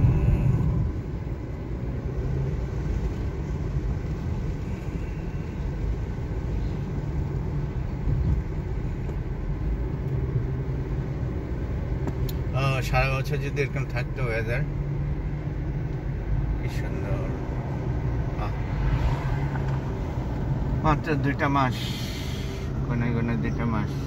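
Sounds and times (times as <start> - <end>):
car road noise inside cabin: 0.0 - 24.0.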